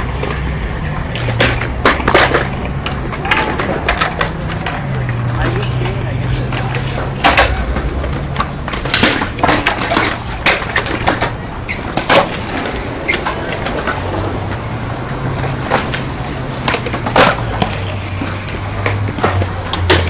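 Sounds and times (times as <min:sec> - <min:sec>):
skateboard wheels rolling: 0:00.0 - 0:20.0
skateboards clacking: 0:00.0 - 0:20.0.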